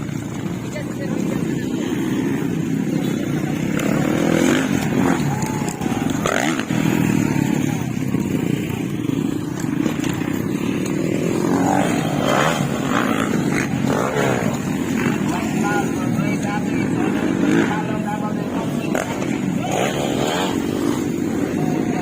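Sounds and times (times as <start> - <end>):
dirt bike engines running: 0.0 - 22.0
faint voices: 0.0 - 22.0.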